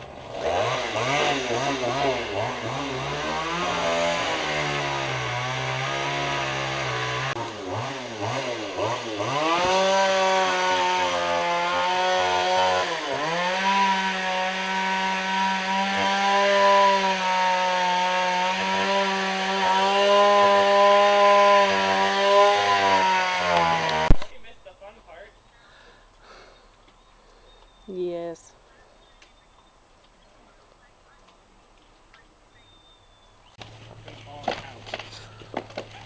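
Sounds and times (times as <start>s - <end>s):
chainsaw revving and cutting wood: 0.0s - 26.6s, 33.6s - 36.0s.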